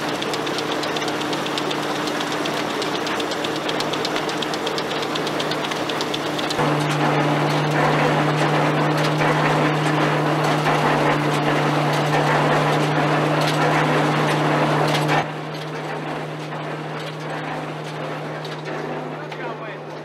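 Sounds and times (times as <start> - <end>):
threshing machine drum hum: 0.0 - 20.0.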